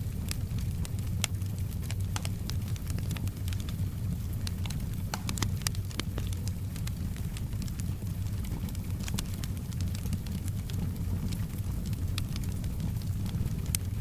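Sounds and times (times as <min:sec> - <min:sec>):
fire pops and snaps: 0:00.0 - 0:14.0
low rumble of flames: 0:00.0 - 0:14.0
soft rain hissing: 0:00.0 - 0:14.0
wood fire crackling: 0:00.0 - 0:14.0.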